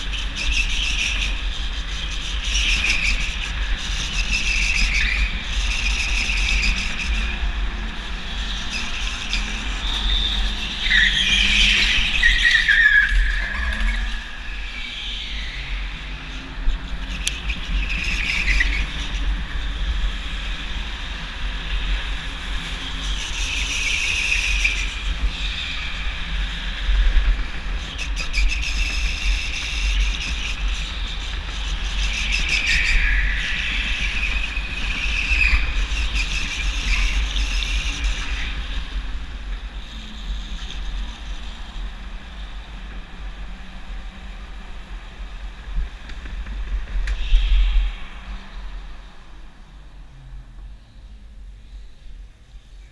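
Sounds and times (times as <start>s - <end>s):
go-kart tyres squealing: 0.0s - 51.1s
low rumble of wind: 0.0s - 52.9s.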